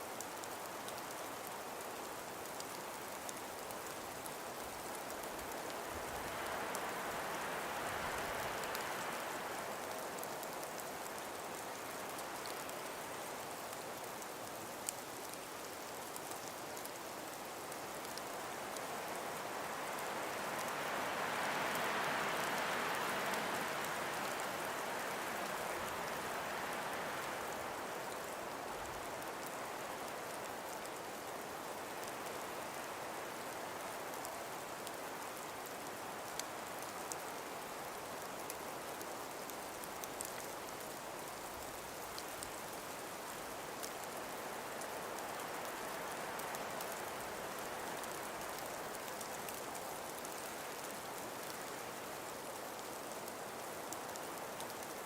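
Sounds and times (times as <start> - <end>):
breeze through trees: 0.0 - 55.0
faint ticks: 0.1 - 55.0.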